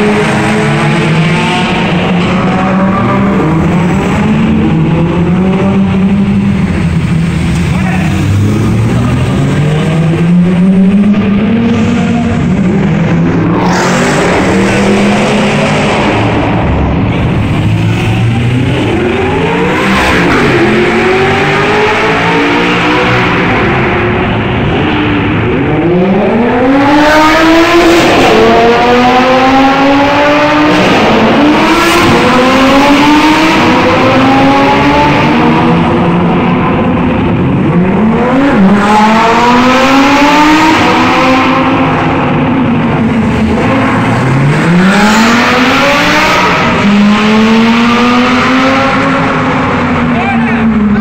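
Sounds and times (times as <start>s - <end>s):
sports car engines revving past: 0.0s - 51.0s.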